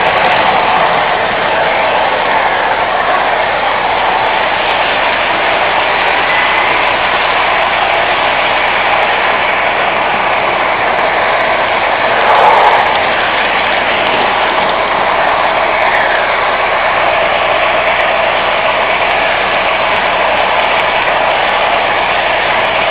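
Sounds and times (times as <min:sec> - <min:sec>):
model train whirring and clattering: 0:00.0 - 0:22.9.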